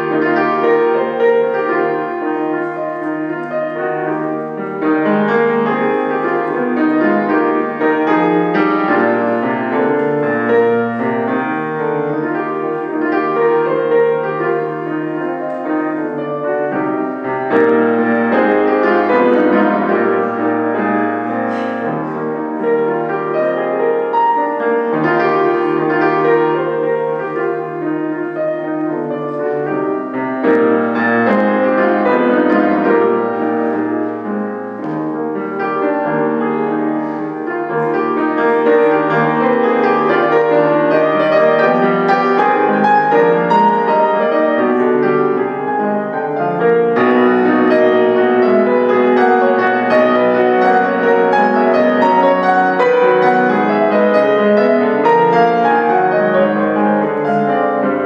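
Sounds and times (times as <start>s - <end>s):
solo piano piece: 0.0s - 58.0s.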